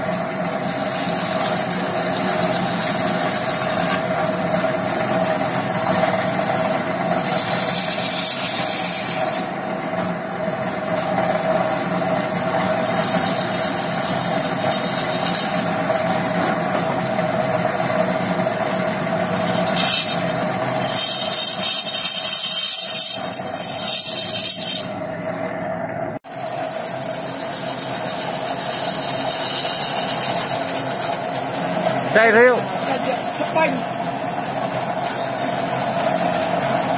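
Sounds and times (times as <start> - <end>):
chisel scraping spinning wood: 0.0 - 25.5, 26.3 - 36.9
lathe motor humming: 0.0 - 36.9.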